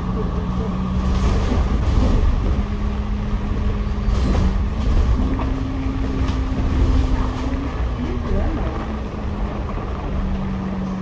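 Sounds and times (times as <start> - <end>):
bus engine rumble: 0.0 - 11.0
drivetrain whine: 0.0 - 11.0.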